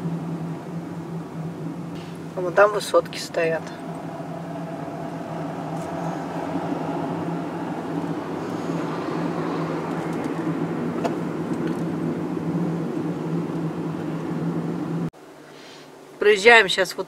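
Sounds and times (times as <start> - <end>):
car engine and tyre noise: 0.0 - 15.1.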